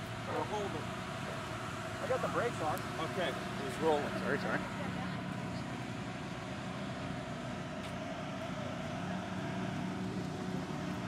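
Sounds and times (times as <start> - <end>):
race car engine idling: 0.0 - 11.0.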